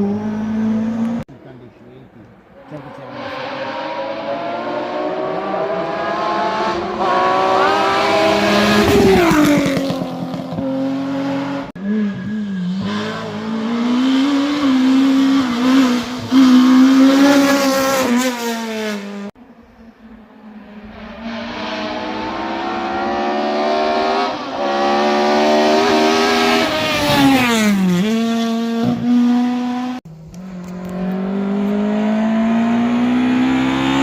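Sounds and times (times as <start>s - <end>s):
rally car engine at high revs: 2.7s - 19.3s, 20.8s - 34.0s.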